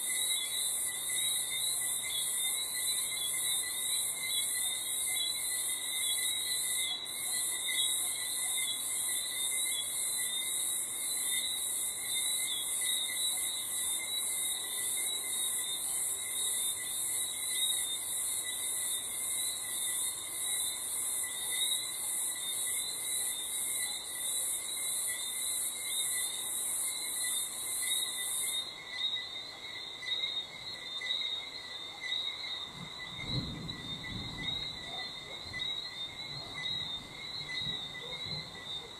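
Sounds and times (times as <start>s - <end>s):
lower steady insect trills: 0.0s - 38.9s.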